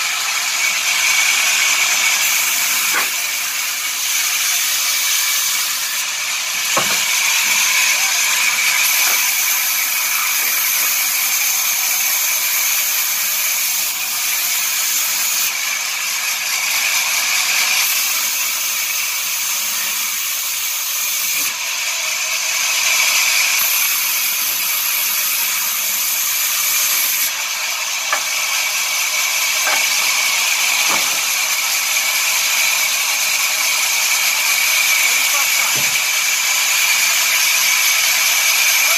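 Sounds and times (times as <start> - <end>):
saw cutting wood: 0.0 - 38.9.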